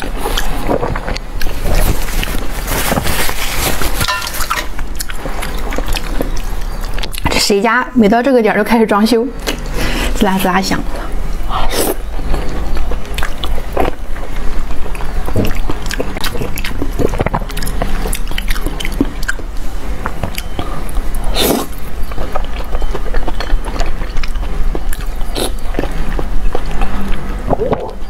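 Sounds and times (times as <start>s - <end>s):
person chewing meat: 0.0s - 2.8s, 3.6s - 7.3s, 11.1s - 28.0s.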